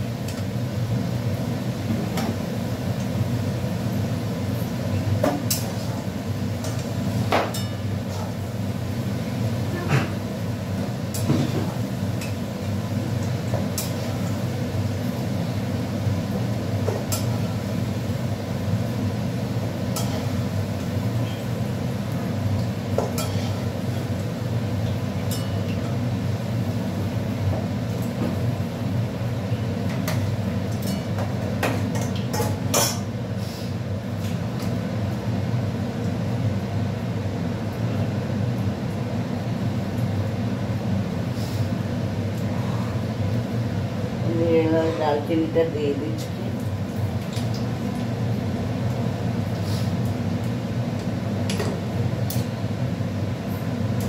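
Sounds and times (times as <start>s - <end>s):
potatoes frying: 0.0s - 42.5s, 45.8s - 54.0s.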